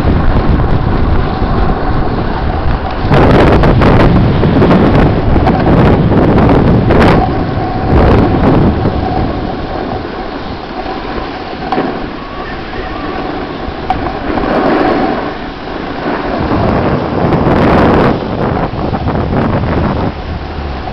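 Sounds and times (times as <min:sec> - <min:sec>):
skis hissing over snow: 0:00.0 - 0:20.9
wind buffeting microphone: 0:00.0 - 0:20.9.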